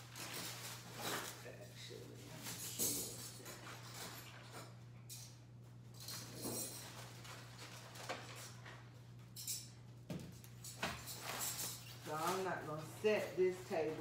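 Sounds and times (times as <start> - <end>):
plastic rustles and crinkles: 0.0 - 4.8, 6.0 - 9.1, 10.2 - 14.0.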